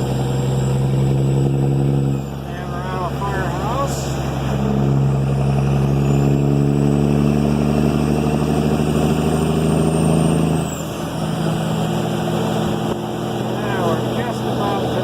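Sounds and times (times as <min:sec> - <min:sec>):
diesel truck engine pulling: 0:00.0 - 0:15.0.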